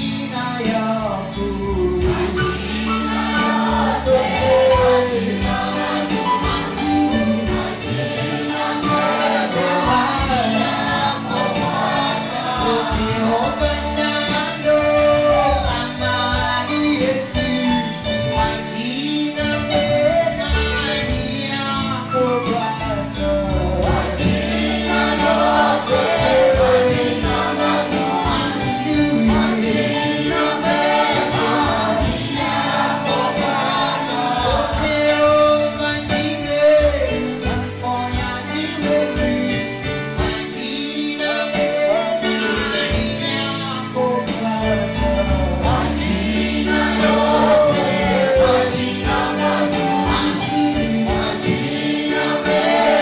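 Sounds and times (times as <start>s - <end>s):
man singing into a microphone: 0.0s - 2.6s, 3.4s - 53.0s
choir singing along: 1.8s - 20.0s, 23.6s - 43.0s, 44.3s - 53.0s.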